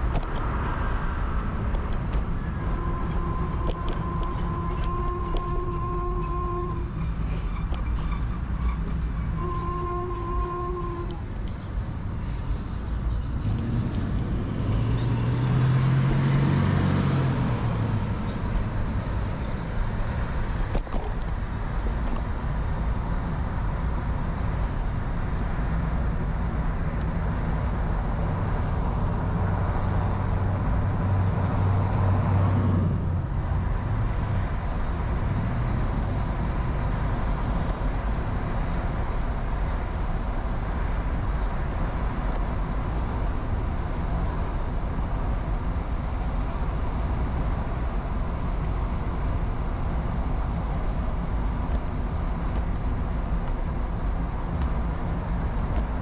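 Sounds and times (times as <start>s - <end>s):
motor vehicles passing: 0.0s - 56.0s.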